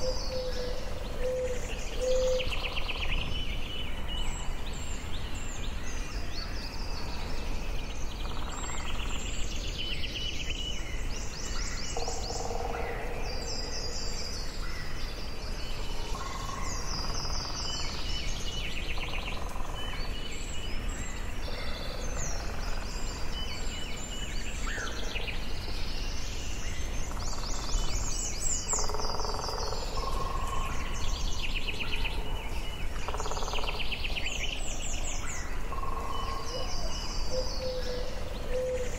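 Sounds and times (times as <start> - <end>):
birds singing and calling: 0.0 - 38.9
steady low background noise: 0.0 - 38.9.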